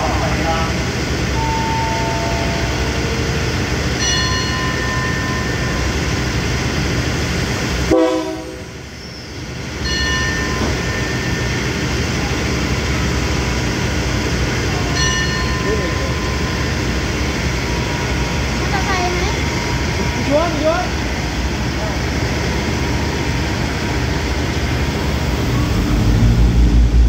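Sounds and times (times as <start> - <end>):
diesel train engine rumble: 0.0 - 27.0.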